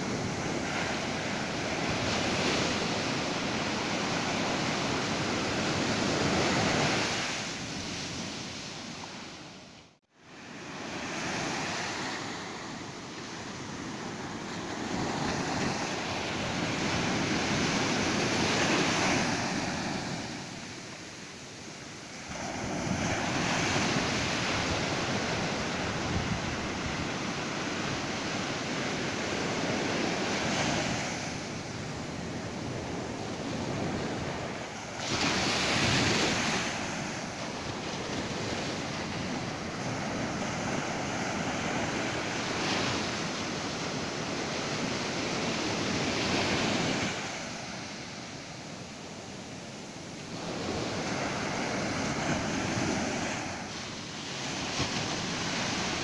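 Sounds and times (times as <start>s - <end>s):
surf breaking on a beach: 0.0s - 9.7s, 10.3s - 56.0s.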